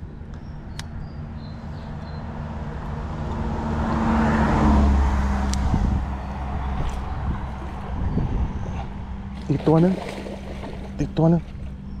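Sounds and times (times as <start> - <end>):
vehicle passing by: 1.6 - 12.0.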